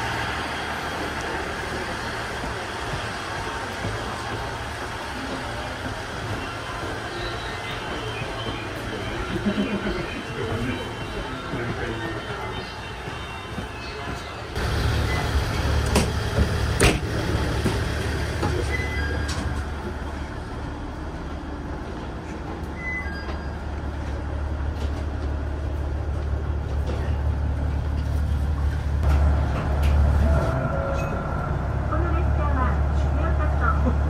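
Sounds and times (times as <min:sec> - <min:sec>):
train rumble inside carriage: 0:00.0 - 0:34.0.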